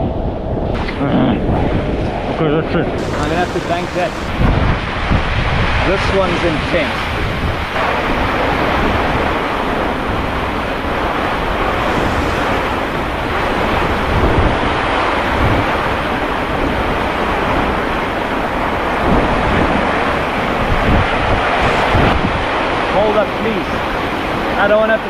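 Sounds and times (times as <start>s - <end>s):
wind buffeting microphone: 0.0s - 24.8s
storm wind gusting: 0.0s - 25.0s.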